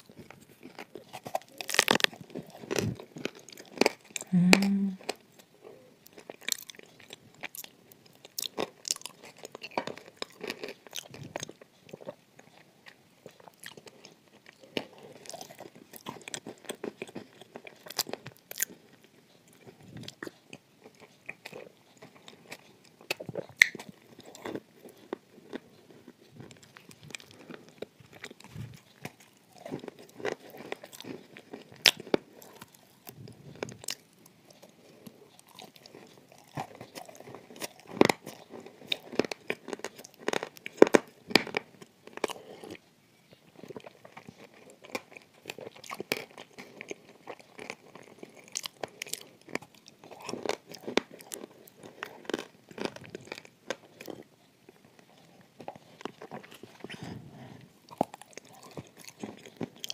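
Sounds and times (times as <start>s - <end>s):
chewing: 0.0s - 59.9s.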